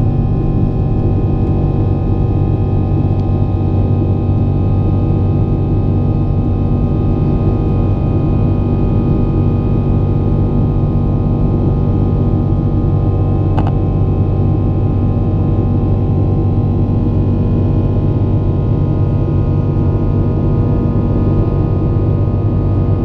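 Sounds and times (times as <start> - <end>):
airliner engine drone in cabin: 0.0 - 23.0.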